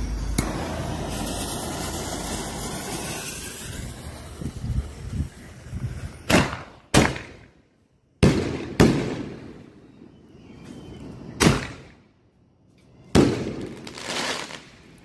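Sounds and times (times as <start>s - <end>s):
fireworks launching and bursting: 0.0s - 12.2s, 12.9s - 15.0s.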